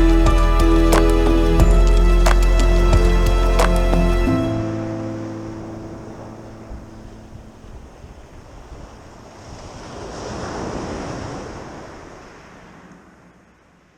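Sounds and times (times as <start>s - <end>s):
wave rushing up the shore: 0.0s - 13.9s.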